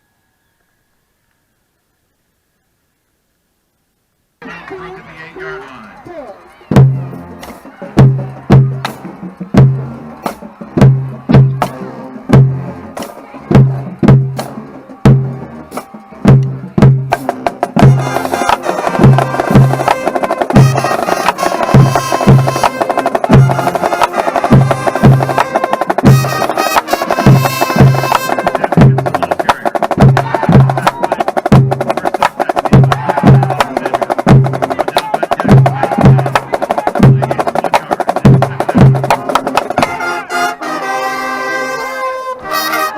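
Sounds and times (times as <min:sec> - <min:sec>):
marching band horns: 0:04.4 - 0:42.9.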